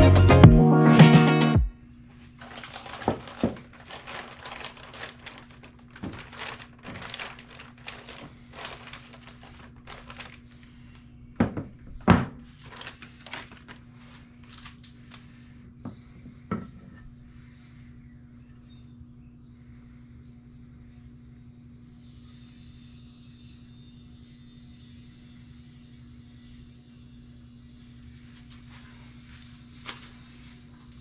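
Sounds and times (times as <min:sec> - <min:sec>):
low electrical hum: 0:01.6 - 0:31.0.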